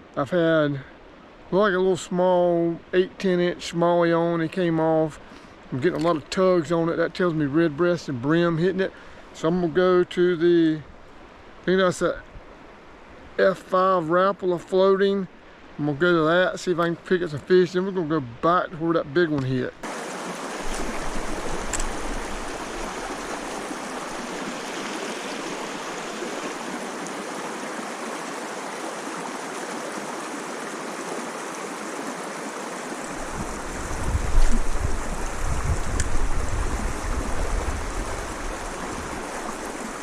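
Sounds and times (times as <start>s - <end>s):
creek water running over rocks: 0.0s - 40.0s.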